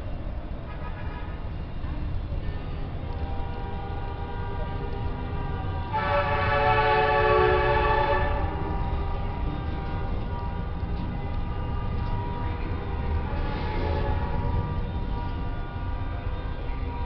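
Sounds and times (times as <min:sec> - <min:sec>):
street traffic rumble: 0:00.0 - 0:17.0
vehicle horn: 0:03.1 - 0:17.0.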